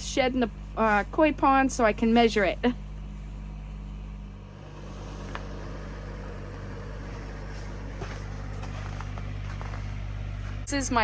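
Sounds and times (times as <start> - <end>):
snow plow engine droning: 0.0 - 11.0.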